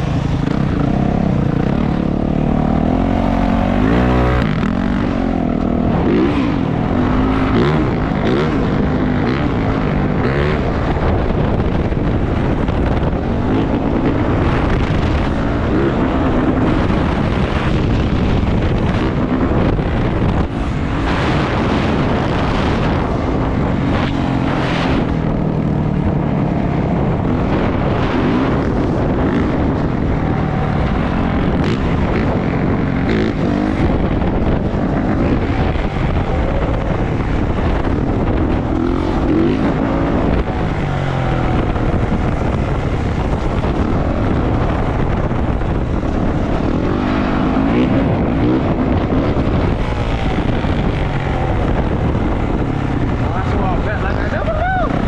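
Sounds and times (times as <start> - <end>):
dirt bike engine revving: 0.0 - 25.3, 27.0 - 54.6.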